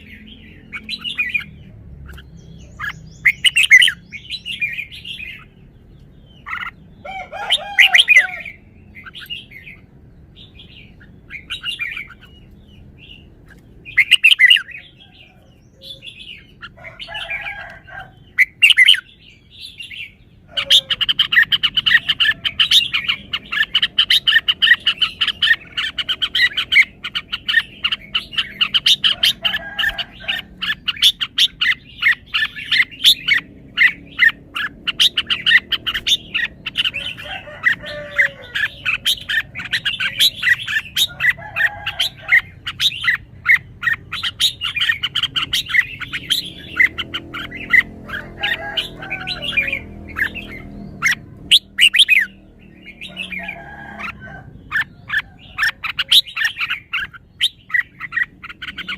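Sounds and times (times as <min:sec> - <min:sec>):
bird singing: 0:00.0 - 0:58.9.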